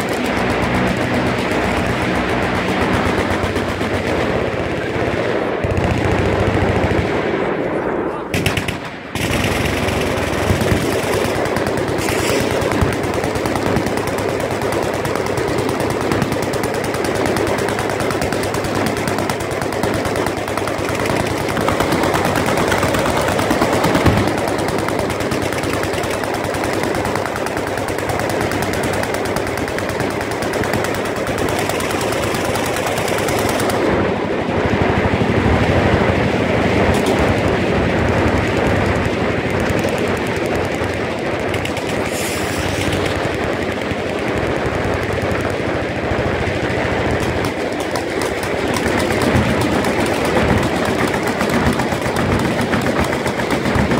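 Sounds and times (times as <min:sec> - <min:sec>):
machine guns firing: 0:00.0 - 0:07.7, 0:08.3 - 0:53.9.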